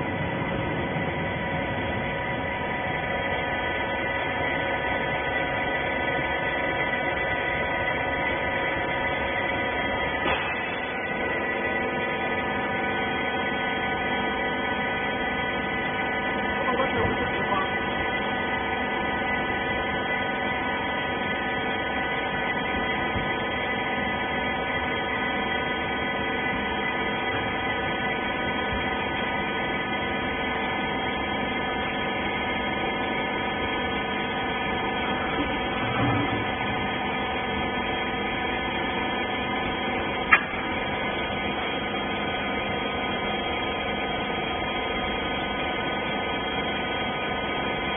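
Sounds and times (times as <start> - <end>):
baler motor and pump humming: 0.0 - 47.9.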